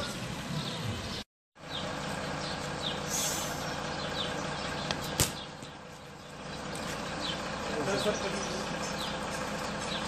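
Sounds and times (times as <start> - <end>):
street noise: 0.0 - 10.0
vehicle engine running: 0.0 - 10.0.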